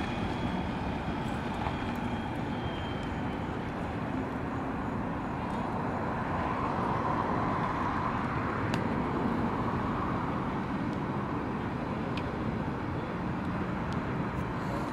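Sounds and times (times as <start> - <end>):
tyre noise on asphalt: 0.0 - 14.9.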